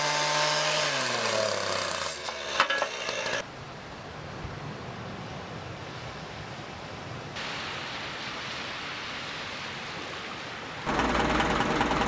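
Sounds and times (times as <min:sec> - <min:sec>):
rushing outdoor noise: 0:01.5 - 0:12.0.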